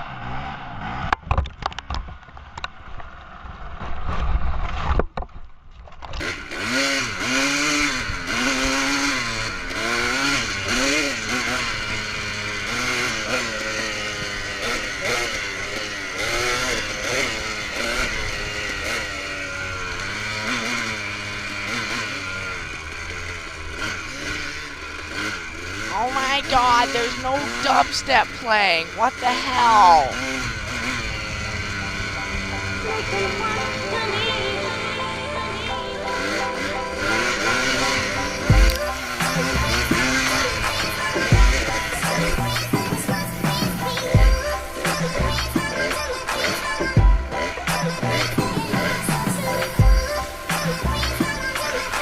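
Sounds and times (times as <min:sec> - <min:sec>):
dirt bike engine revving: 0:00.0 - 0:01.3, 0:06.2 - 0:52.0.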